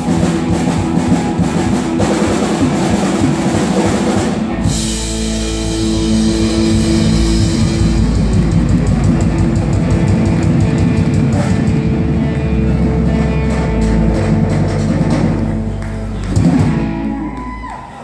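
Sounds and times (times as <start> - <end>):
bass guitar: 0.0 - 18.0
drum kit: 0.0 - 18.0
electric guitars: 0.0 - 18.0.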